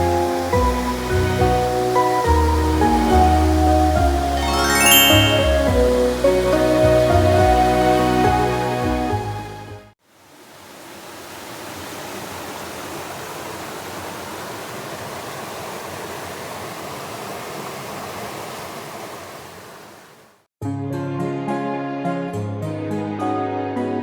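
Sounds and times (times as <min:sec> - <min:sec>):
waterfall rushing: 0:00.0 - 0:09.5, 0:10.2 - 0:20.4.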